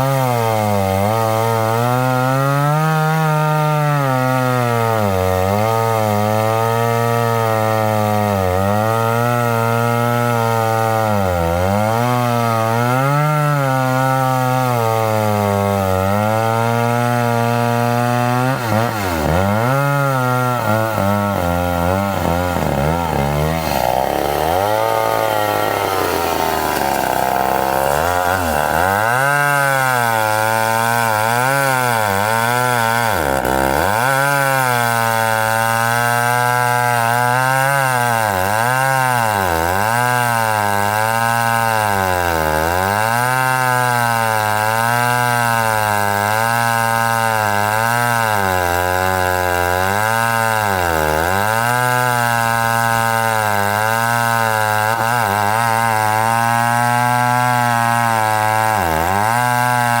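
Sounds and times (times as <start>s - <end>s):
chainsaw cutting wood: 0.0s - 60.0s.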